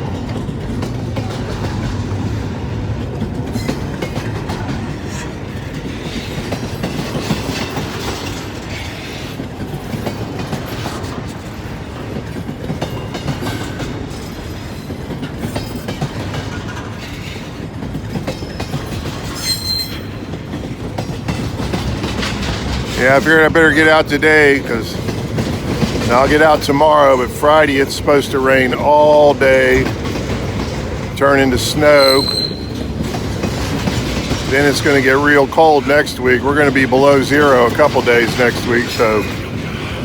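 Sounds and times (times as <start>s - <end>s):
train wheels clacking over rail joints: 0.0s - 40.0s.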